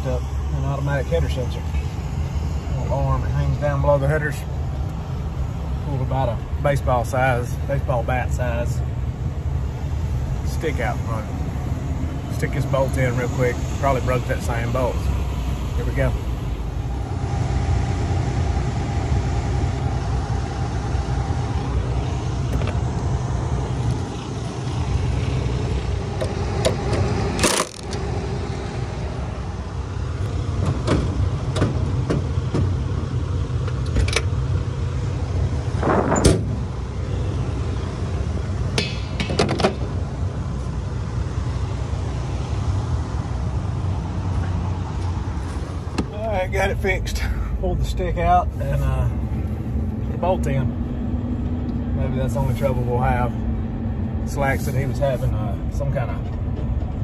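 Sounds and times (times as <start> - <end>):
combine harvester rumbling: 0.0 - 57.0.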